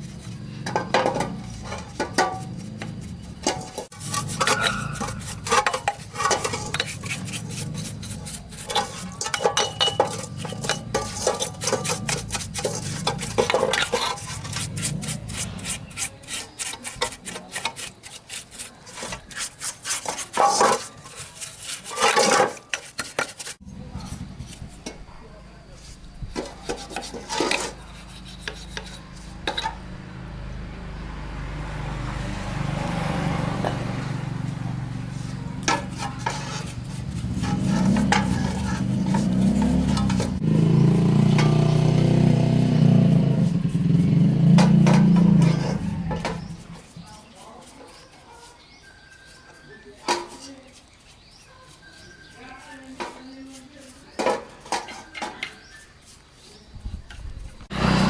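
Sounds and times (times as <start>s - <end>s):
hand tool scraping metal: 0.0s - 30.0s, 33.4s - 58.0s.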